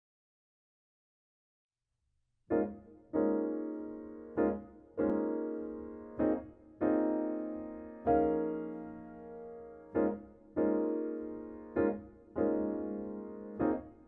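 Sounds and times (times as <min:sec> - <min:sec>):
grand piano chords: 0:02.5 - 0:14.0.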